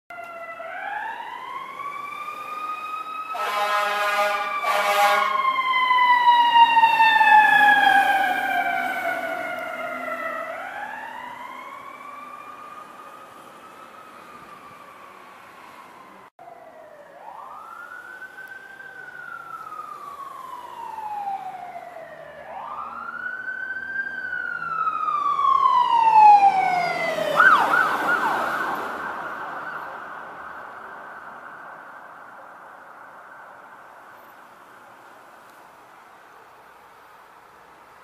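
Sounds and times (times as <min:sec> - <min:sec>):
fire truck siren wailing: 0:00.1 - 0:34.3.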